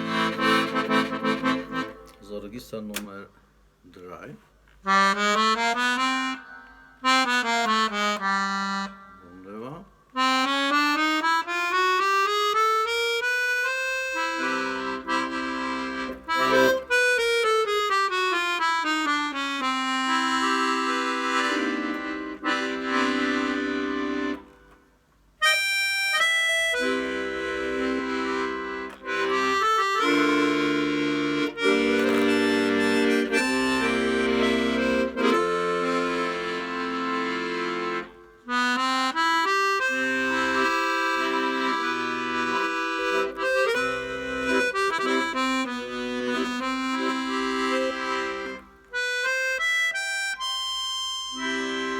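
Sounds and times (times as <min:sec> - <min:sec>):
accordion playing: 0:00.0 - 0:02.3, 0:04.9 - 0:09.6, 0:10.2 - 0:51.9.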